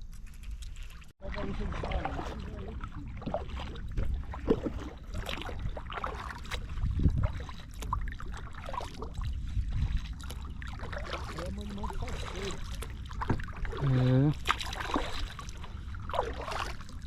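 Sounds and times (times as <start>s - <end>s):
water splashing and lapping: 0.0s - 17.0s
wind rumble on microphone: 0.2s - 17.0s.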